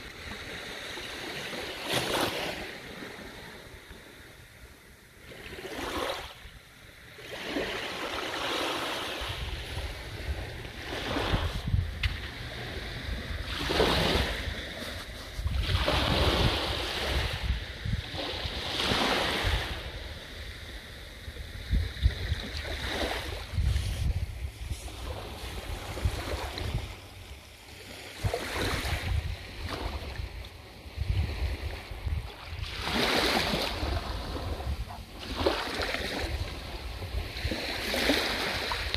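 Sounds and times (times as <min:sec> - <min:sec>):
small waves breaking on beach: 0:00.0 - 0:38.9
wind rumbling on microphone: 0:07.3 - 0:38.9.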